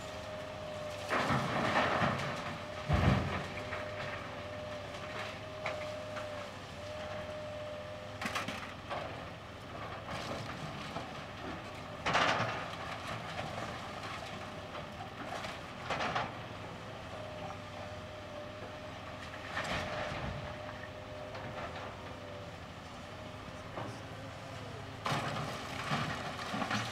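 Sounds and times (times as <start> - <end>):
excavator engine hum and whine: 0.0 - 26.9.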